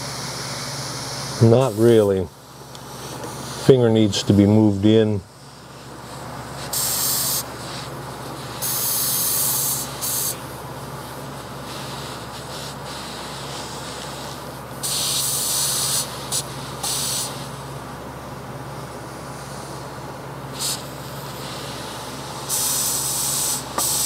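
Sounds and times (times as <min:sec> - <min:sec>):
compressed air hissing: 0:00.0 - 0:02.2, 0:02.8 - 0:03.8, 0:05.4 - 0:17.6, 0:19.0 - 0:24.0.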